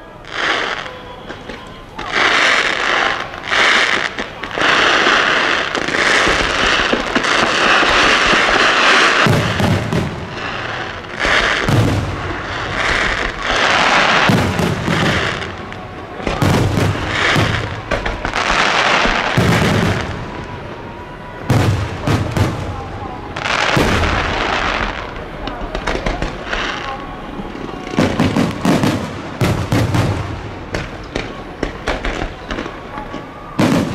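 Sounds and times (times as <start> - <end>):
fireworks crackling: 0.0 - 33.9.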